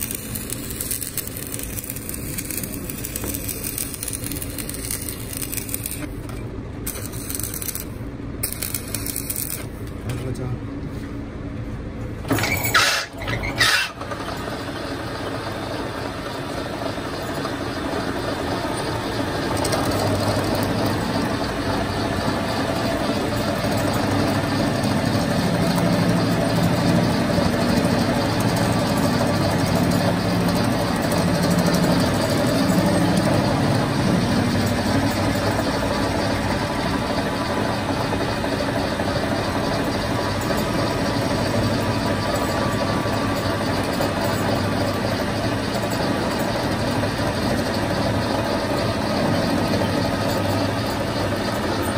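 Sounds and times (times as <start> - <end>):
lathe motor humming: 0.0 - 6.1, 14.6 - 51.9.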